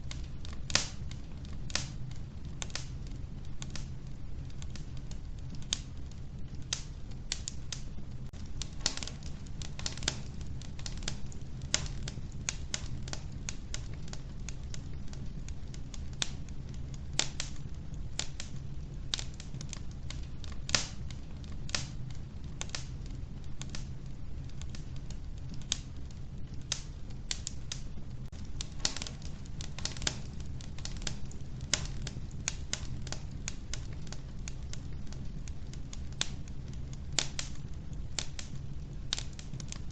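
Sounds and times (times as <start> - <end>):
low stove rumble: 0.0 - 39.9
wood fire crackling: 0.0 - 39.9.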